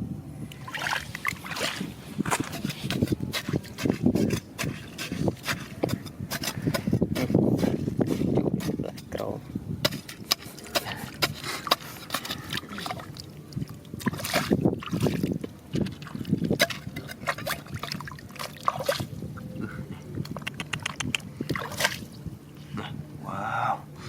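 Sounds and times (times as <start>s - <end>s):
water sloshing and splashing: 0.5s - 9.2s, 9.8s - 19.6s, 20.2s - 22.3s.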